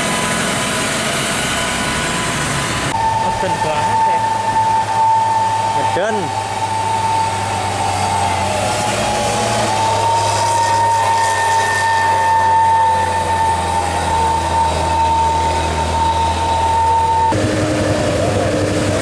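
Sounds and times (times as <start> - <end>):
diesel truck engine running: 0.0 - 19.0
high engine whine: 0.0 - 19.0.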